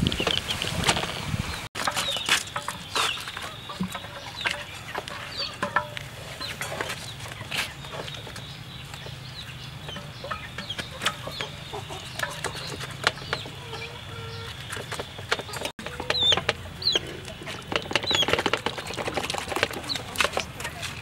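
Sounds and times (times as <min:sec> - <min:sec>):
chickens clucking: 0:00.0 - 0:21.0
raw meat squelching in metal basin: 0:01.8 - 0:21.0.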